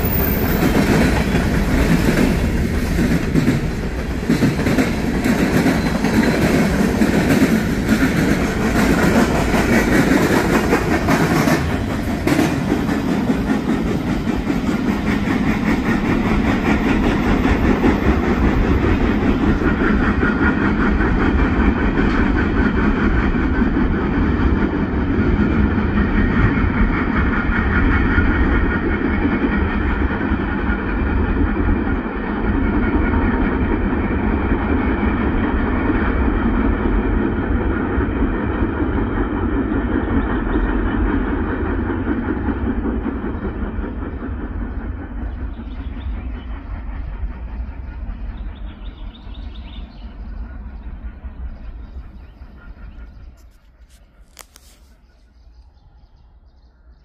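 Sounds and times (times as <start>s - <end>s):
freight train wheels clattering: 0.0s - 55.1s.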